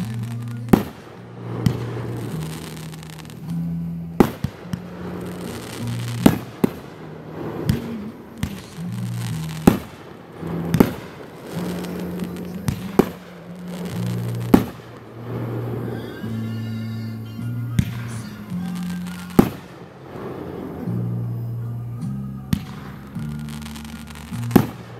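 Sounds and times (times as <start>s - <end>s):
fireworks launching and bursting: 0.0s - 24.9s
music with low sustained notes: 0.0s - 24.9s.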